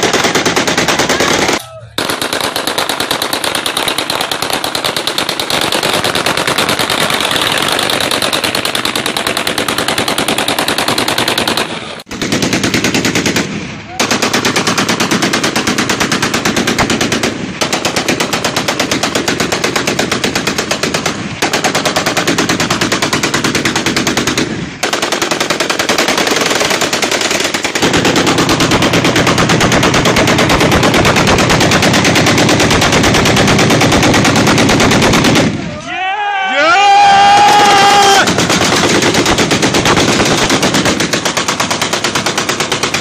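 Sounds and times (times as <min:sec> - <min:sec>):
automatic rifle fire: 0:00.0 - 0:35.7, 0:37.3 - 0:43.0.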